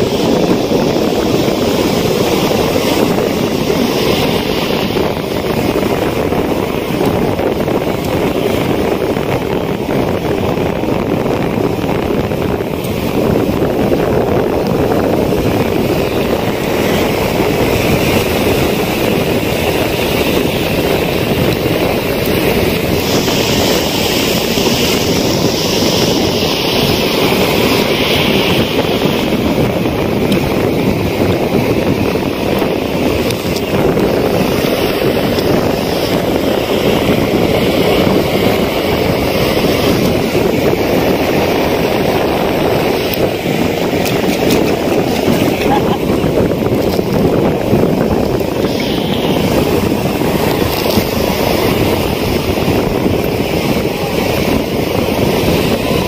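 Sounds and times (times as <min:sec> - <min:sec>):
waves breaking on shore: 0:00.0 - 0:56.0
wind buffeting microphone: 0:00.0 - 0:56.0.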